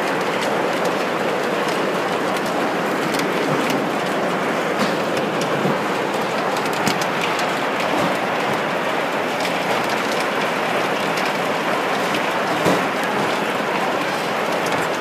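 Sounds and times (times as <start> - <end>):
heavy hail clattering on ground: 0.0 - 15.0.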